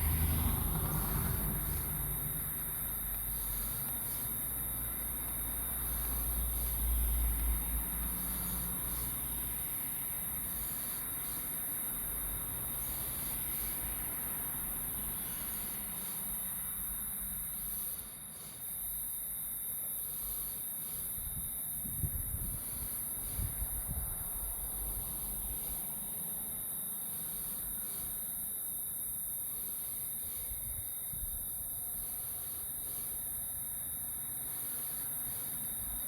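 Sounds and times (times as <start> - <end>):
high-pitched hiss: 0.0 - 36.0.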